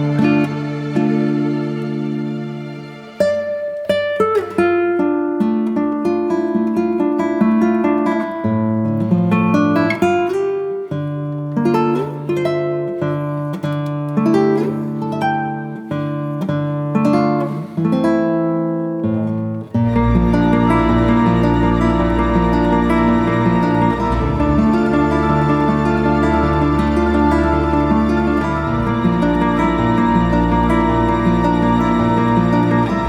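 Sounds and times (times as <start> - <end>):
acoustic guitar picking: 0.0 - 33.0.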